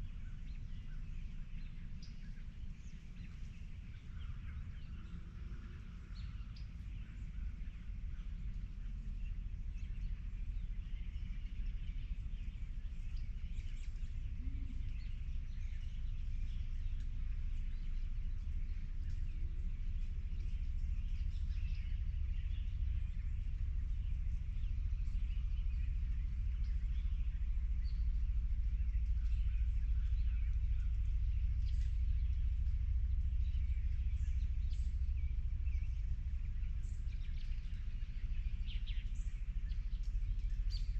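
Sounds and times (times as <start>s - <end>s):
steady low rumble: 0.0s - 40.9s
wild birds chirping: 0.0s - 40.9s.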